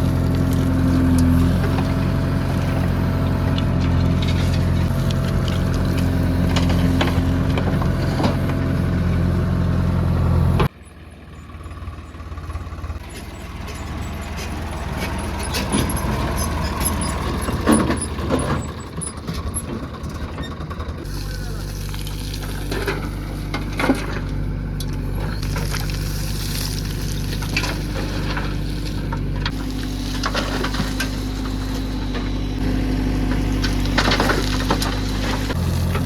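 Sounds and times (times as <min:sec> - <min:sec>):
clattering and scraping: 0:00.0 - 0:09.2, 0:13.0 - 0:20.6, 0:22.2 - 0:36.0
diesel engine running: 0:00.0 - 0:36.0.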